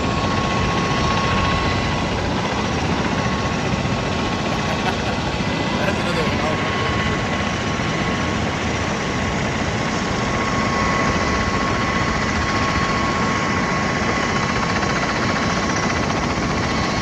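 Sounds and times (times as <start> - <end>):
aircraft engines and rotors rushing: 0.0 - 17.0
high engine whine: 0.0 - 17.0.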